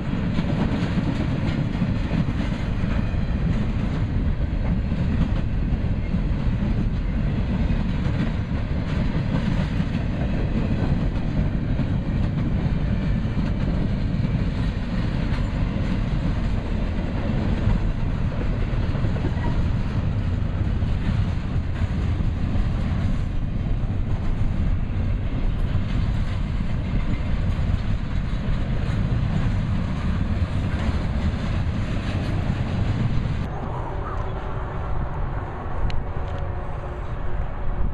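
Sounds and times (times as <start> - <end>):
freight train rumbling past: 0.0 - 37.9.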